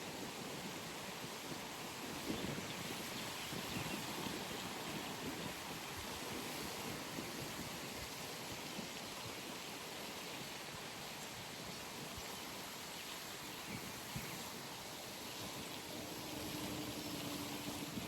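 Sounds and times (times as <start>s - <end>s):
outdoor pond ambience: 0.0s - 18.0s.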